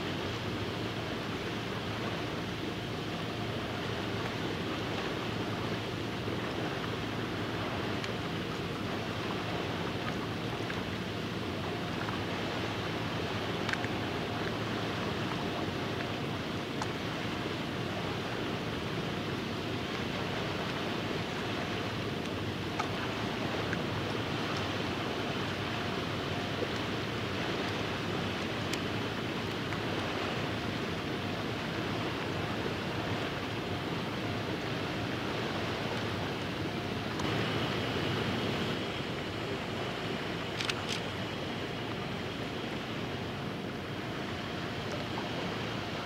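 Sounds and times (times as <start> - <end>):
faint steady hum: 0.0 - 46.0
water lapping: 0.0 - 46.0
wind: 0.0 - 46.0.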